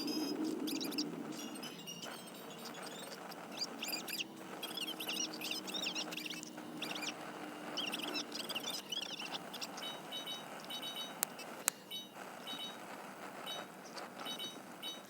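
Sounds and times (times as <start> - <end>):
small birds chirping and singing: 0.0 - 15.0.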